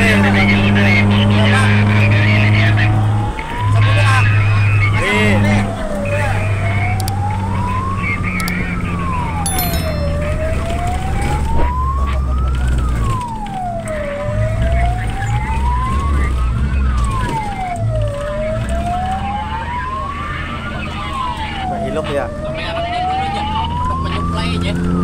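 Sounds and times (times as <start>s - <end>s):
fire truck wail siren: 2.0s - 9.4s, 10.6s - 25.0s.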